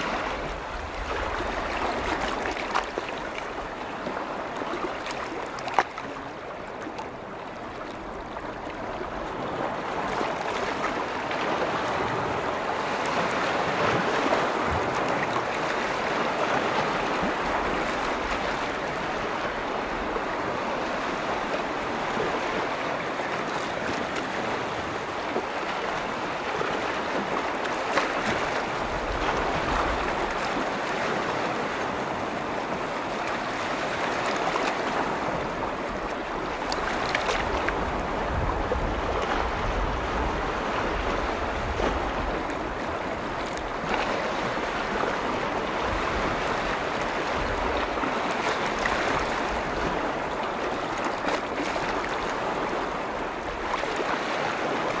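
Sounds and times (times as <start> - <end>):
wind rumble on microphone: 0.0 - 5.6, 6.2 - 55.0
lake waves lapping on shore: 0.0 - 55.0.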